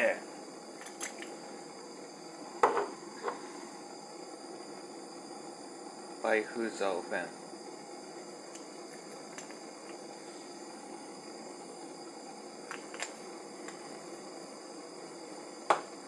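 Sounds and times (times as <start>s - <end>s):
low kitchen hiss: 0.0s - 16.0s.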